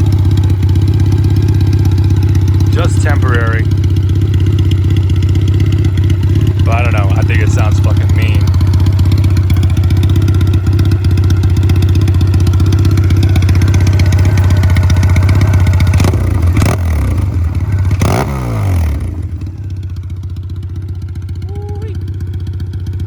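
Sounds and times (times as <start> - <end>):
motorcycle engine running loud: 0.0 - 23.0
motorcycle throttle blips: 0.0 - 23.0.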